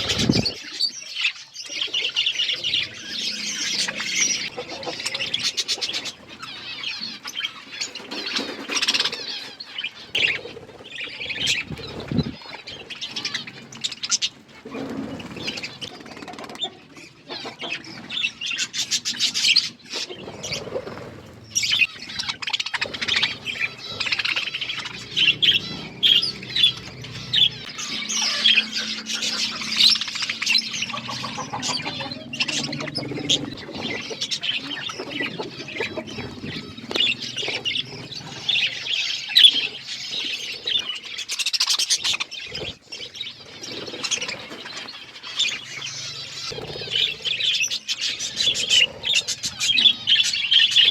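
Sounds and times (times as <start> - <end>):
budgerigars chirping: 0.0 - 50.9.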